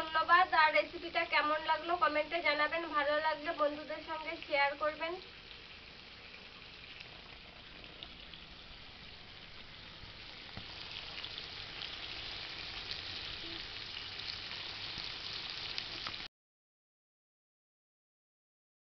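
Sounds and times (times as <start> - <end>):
curry sizzling in hot oil: 0.0 - 16.3.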